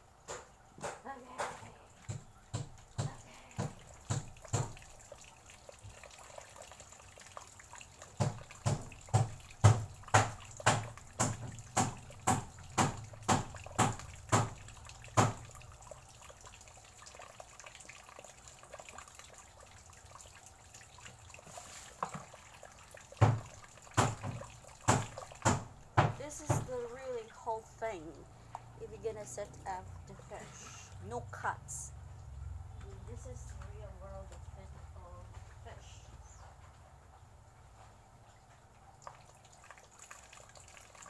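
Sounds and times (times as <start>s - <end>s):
water dripping: 0.0s - 41.0s.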